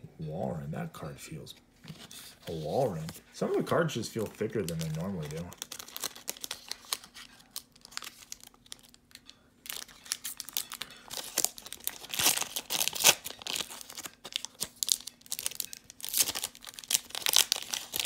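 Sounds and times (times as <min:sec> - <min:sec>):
foil wrapper crinkling: 0:02.5 - 0:18.0.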